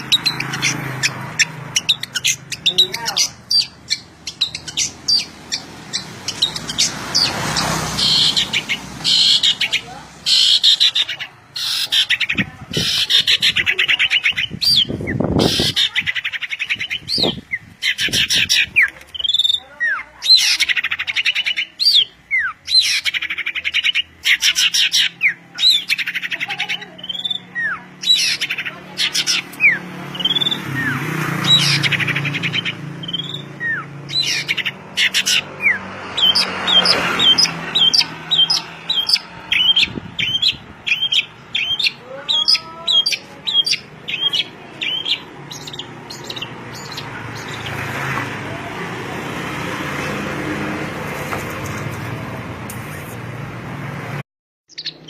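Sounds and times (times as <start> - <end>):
songbird trilling and chirping: 0.0 - 48.0, 54.7 - 55.0.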